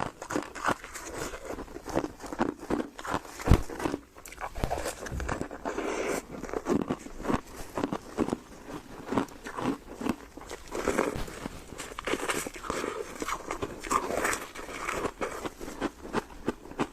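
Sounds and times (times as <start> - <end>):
crunchy foam chewing: 0.0 - 16.9.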